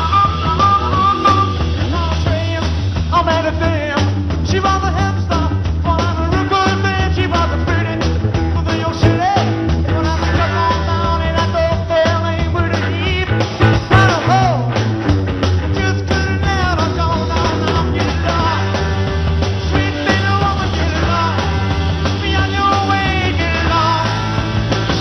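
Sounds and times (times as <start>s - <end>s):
man singing: 0.0s - 15.0s, 15.6s - 25.0s
live rock band playing: 0.0s - 25.0s.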